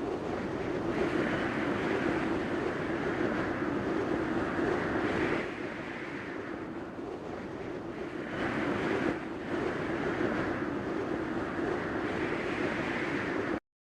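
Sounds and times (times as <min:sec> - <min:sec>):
muffled rushing rumble: 0:00.0 - 0:13.6.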